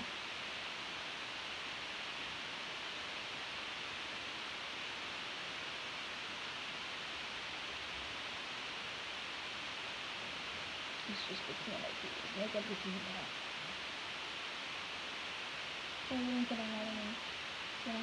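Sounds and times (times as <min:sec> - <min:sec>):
room noise hiss: 0:00.0 - 0:18.0.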